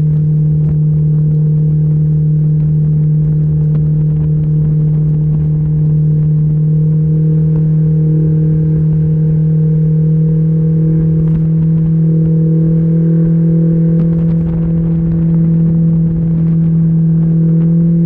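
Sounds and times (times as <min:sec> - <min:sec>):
outboard engine drone: 0:00.0 - 0:18.0.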